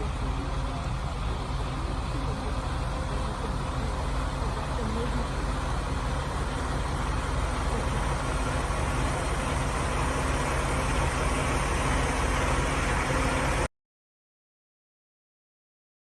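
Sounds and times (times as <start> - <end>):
engine running with hiss: 0.0 - 13.7.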